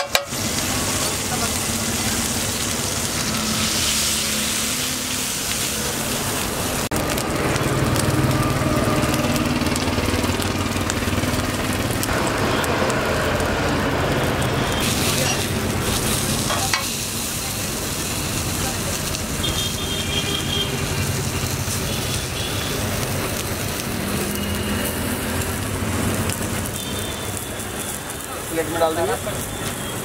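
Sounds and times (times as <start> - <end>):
faint sizzle on griddle: 0.0 - 30.0
street stall background noise: 0.0 - 30.0.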